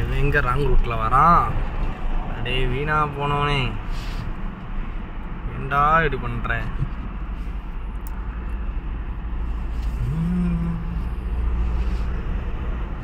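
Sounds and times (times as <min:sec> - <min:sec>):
car engine: 0:00.0 - 0:13.0
road rumble: 0:00.0 - 0:13.0.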